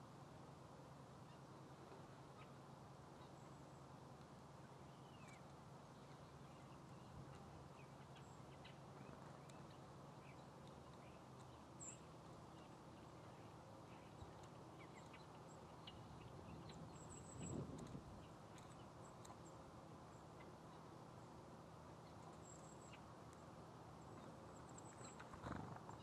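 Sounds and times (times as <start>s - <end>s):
faint low hum: 0.0s - 26.0s
small birds calling: 1.2s - 3.9s, 4.5s - 26.0s.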